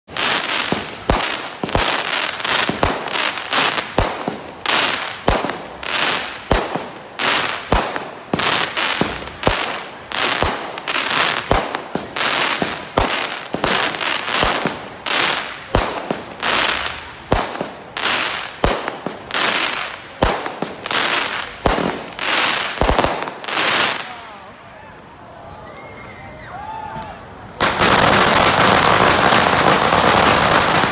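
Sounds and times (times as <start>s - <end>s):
fireworks bangs: 0.1s - 24.3s, 27.6s - 30.9s
fireworks crackle: 0.1s - 24.4s, 27.6s - 30.9s.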